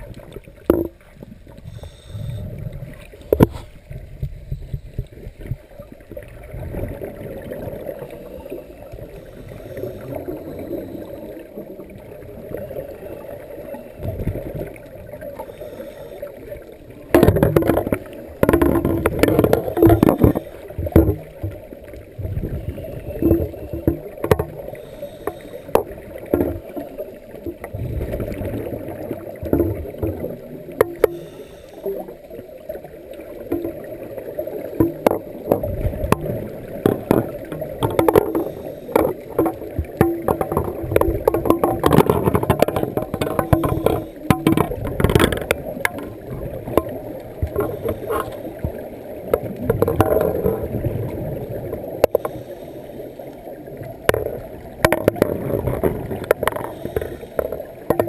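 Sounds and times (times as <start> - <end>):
underwater bubbles gurgling: 0.0 - 58.0.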